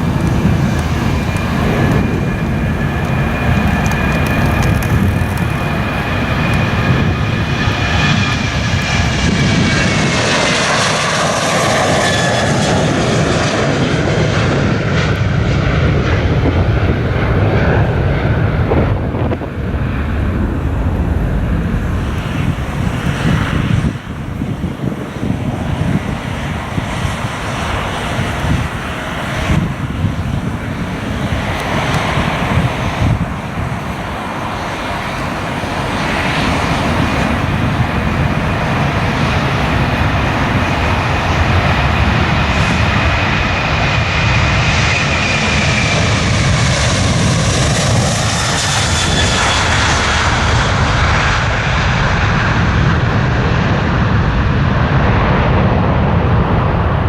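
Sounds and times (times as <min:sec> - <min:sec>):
jet engine roar with fan whine: 0:00.0 - 0:57.0
wind rumble on microphone: 0:00.0 - 0:57.0.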